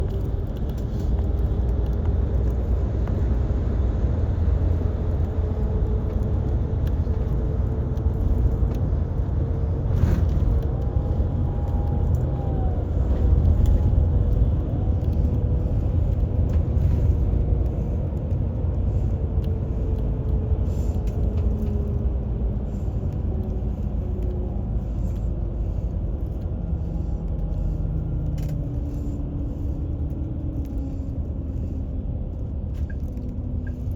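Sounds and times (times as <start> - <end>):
train rumbling in motion: 0.0 - 33.9.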